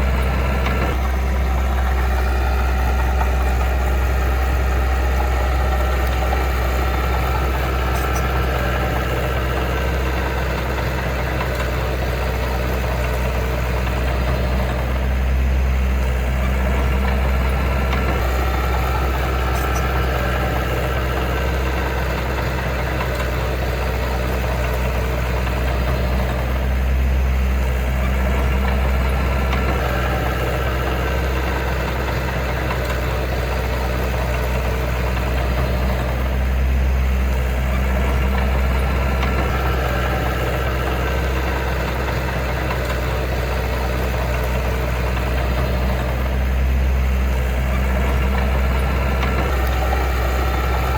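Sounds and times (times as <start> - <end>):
diesel engine running at low revs: 0.0 - 50.9.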